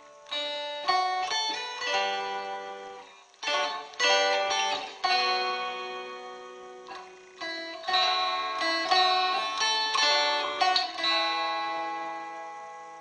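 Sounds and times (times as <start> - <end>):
plucked acoustic guitar: 0.0 - 12.8.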